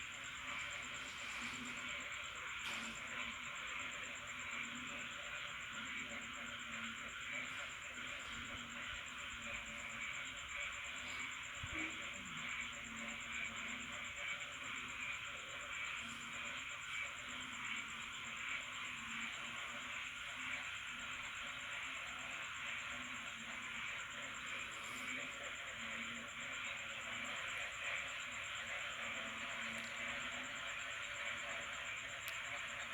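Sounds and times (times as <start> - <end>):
frogs calling: 0.0 - 32.9.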